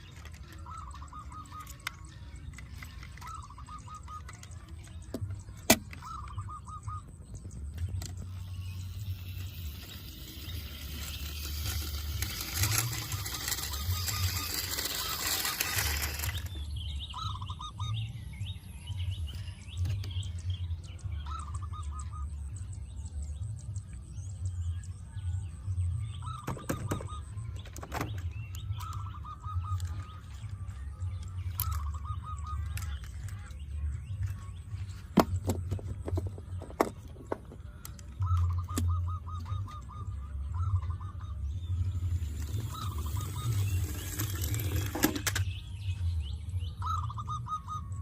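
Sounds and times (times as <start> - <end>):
birds chirping trills: 0.0 - 48.0.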